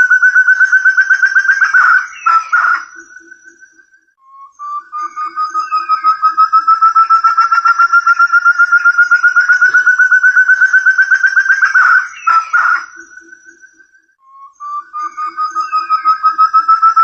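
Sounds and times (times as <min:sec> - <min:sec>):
partridge whistled calls: 0:00.0 - 0:03.8, 0:04.4 - 0:17.0.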